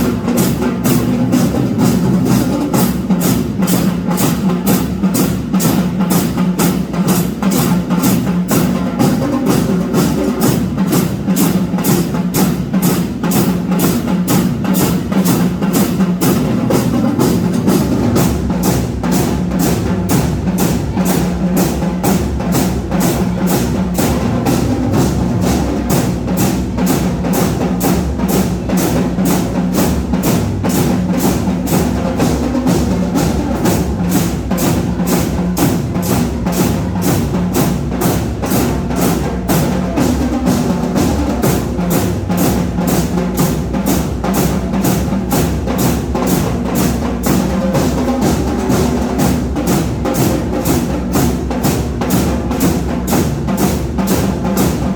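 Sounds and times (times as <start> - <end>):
band melody instruments: 0.0 - 54.9
marching drum line beat: 0.0 - 54.9.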